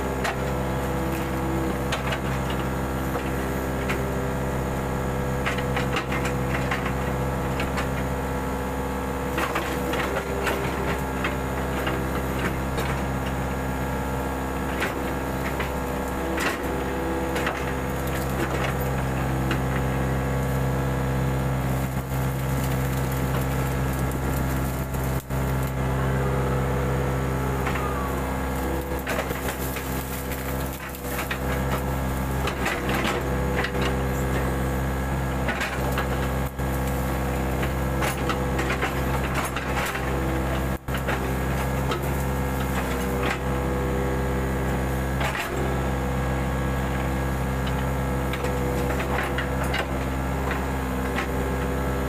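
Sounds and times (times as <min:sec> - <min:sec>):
excavator engine running: 0:00.0 - 0:52.0.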